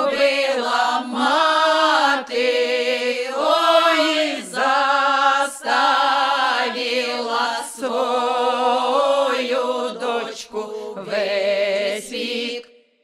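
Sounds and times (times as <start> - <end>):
women singing a cappella: 0.0 - 12.7.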